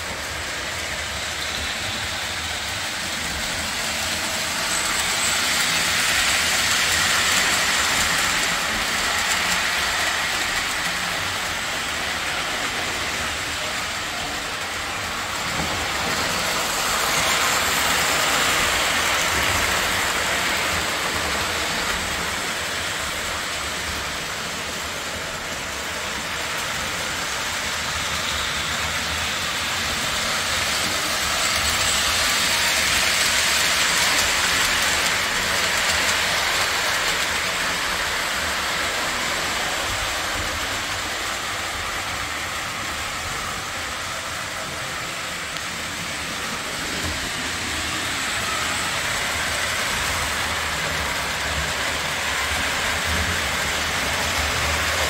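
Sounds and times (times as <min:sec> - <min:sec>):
toy trains rumbling and whirring: 0:00.0 - 0:55.0.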